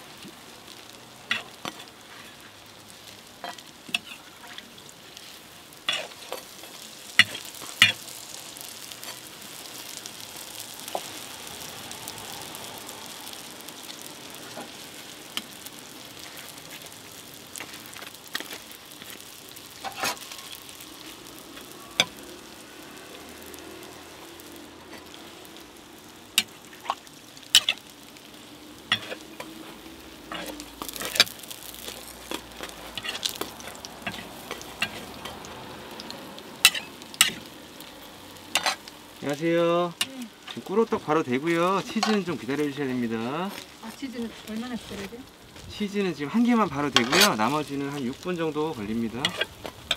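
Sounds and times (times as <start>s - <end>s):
pancakes sizzling in oil: 0.0s - 49.9s.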